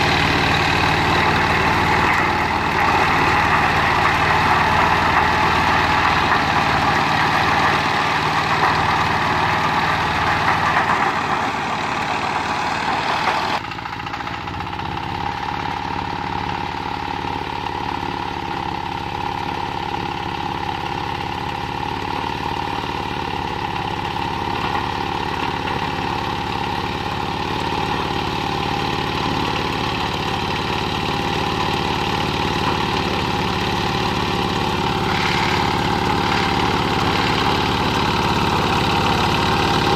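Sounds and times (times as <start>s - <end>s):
rotary tiller churning soil: 0.0s - 39.9s
tractor diesel engine running: 0.0s - 39.9s.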